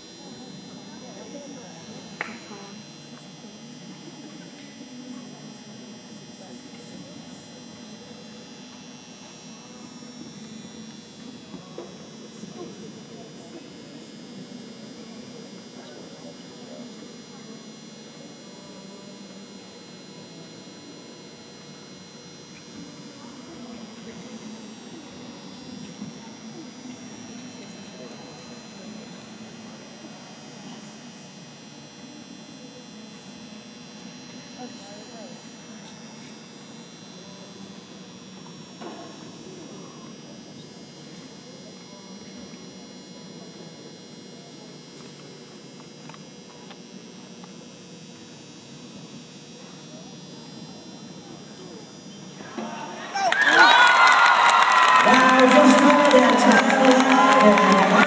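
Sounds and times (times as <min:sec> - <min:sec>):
electrical hum: 0:00.0 - 0:58.0
murmur of crowd: 0:00.0 - 0:58.0.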